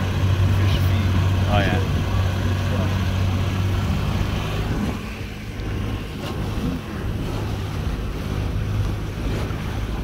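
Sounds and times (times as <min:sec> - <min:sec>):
outboard motor running: 0:00.0 - 0:10.0
water rushing past hull: 0:00.0 - 0:10.0.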